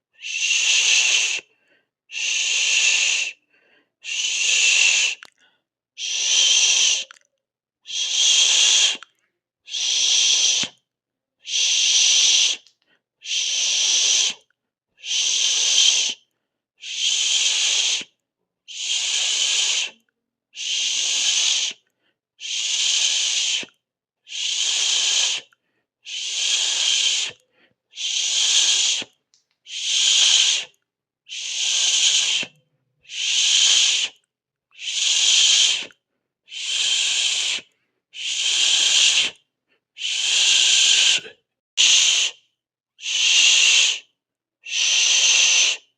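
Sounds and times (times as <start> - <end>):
person hissing with mouth: 0.1 - 3.4, 4.0 - 5.4, 6.0 - 7.2, 7.9 - 10.8, 11.4 - 45.9.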